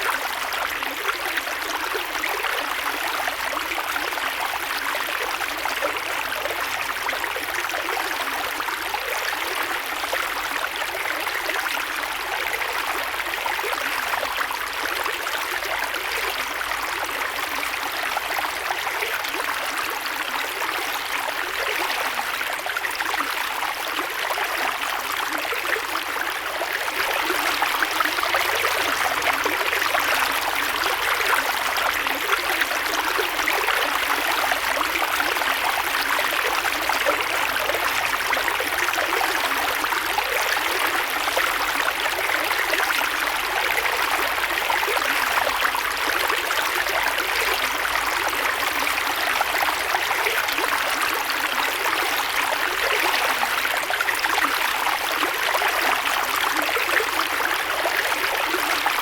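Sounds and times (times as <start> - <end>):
creek water flowing over rocks: 0.0 - 59.0.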